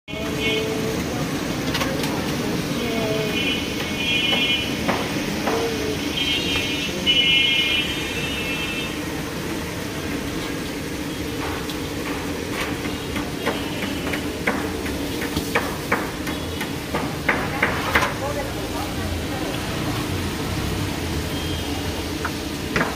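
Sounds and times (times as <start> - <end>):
chicken deep-frying in oil: 0.1 - 22.9.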